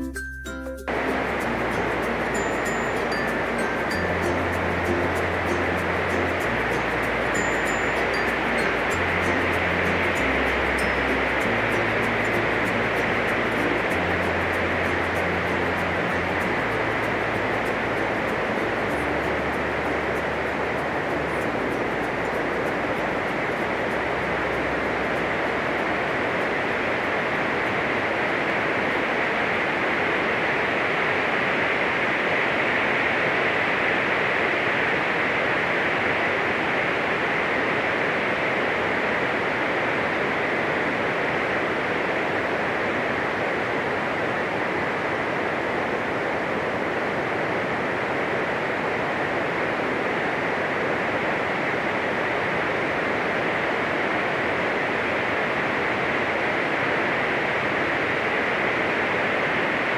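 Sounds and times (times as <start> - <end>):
loud steady hiss: 0.9 - 59.9.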